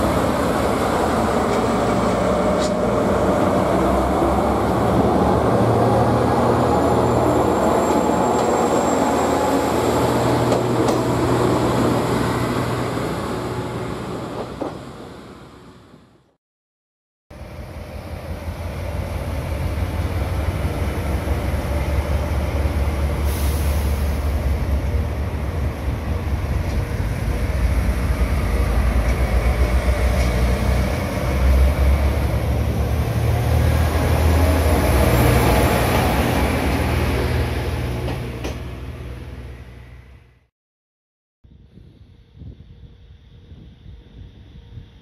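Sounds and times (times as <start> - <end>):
train wheels rolling on rails: 0.0 - 16.0, 17.8 - 39.6
diesel railcar engine droning: 0.0 - 16.3, 17.3 - 40.5.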